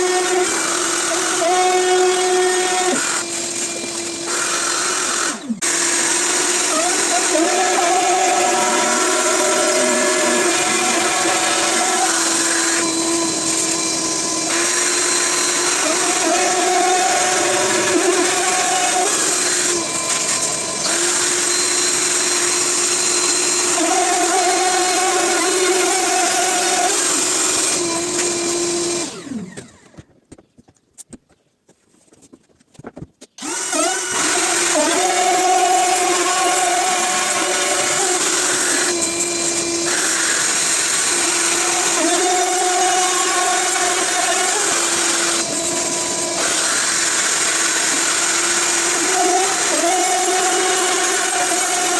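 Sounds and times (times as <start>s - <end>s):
router cutting wood: 0.0s - 30.0s, 33.4s - 51.9s.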